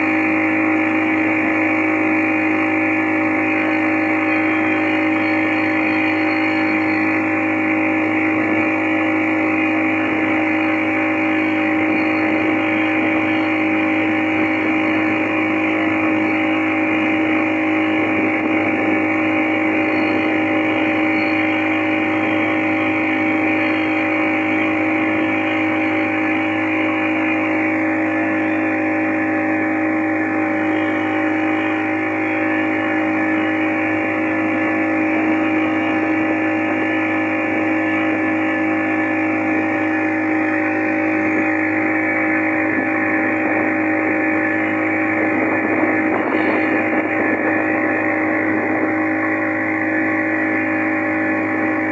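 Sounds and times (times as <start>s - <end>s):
boat motor droning: 0.0s - 51.9s.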